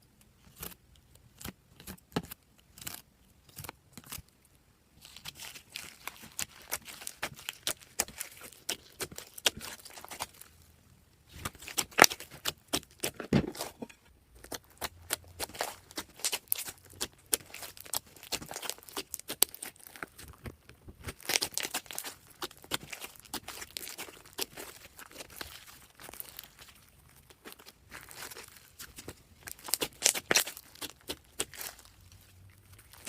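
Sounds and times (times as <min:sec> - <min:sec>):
slime squishing by hand: 0:04.9 - 0:33.0.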